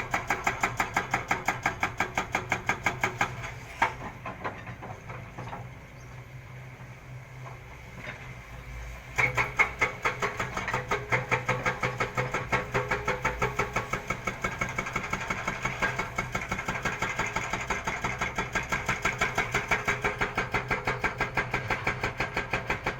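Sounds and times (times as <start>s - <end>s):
excavator hum: 0.0s - 22.9s.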